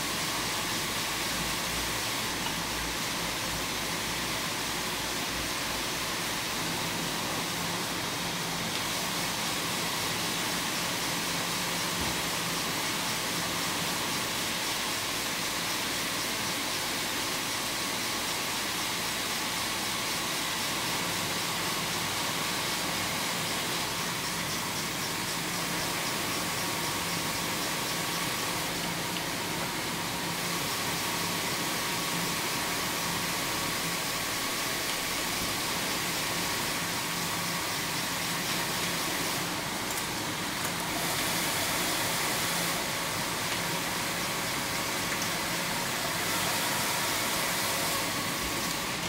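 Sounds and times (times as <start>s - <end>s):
knitting machines hissing: 2.9s - 49.0s.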